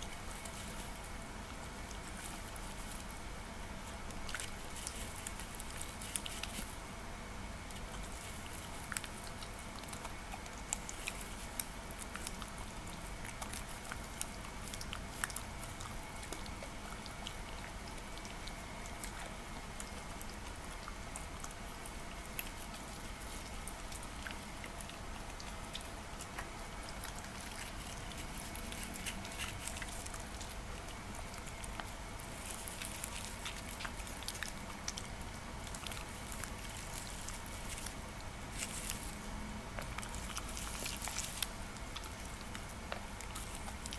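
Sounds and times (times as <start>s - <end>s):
dog chewing and licking: 0.0s - 7.0s, 7.6s - 43.9s
faint steady hum: 0.0s - 43.9s.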